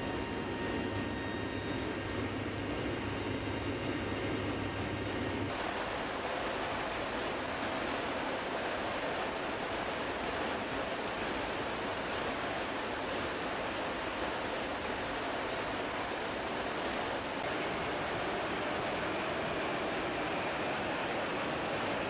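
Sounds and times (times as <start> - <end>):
turboprop engines droning: 0.0 - 7.2, 10.4 - 22.0.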